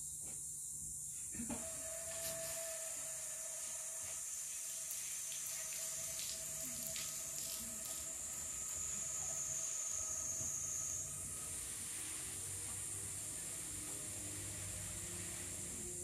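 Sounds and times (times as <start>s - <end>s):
water spraying from garden hose: 2.2s - 16.0s.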